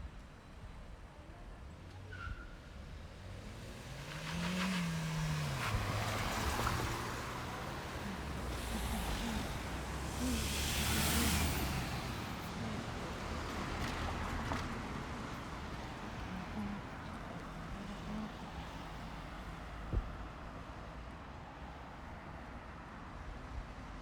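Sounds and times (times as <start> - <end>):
vehicles driving past: 2.6 - 24.0.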